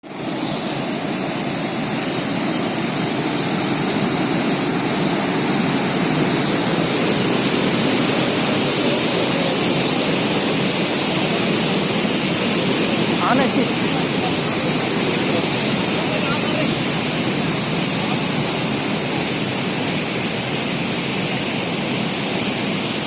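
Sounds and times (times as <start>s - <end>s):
river water rushing: 0.1s - 23.0s.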